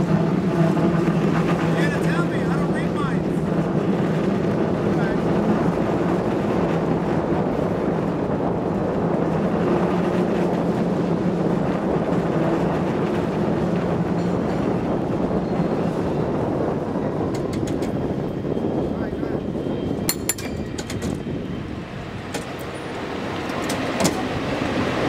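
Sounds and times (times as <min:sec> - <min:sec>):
cable car rumbling on rails: 0:00.0 - 0:25.0.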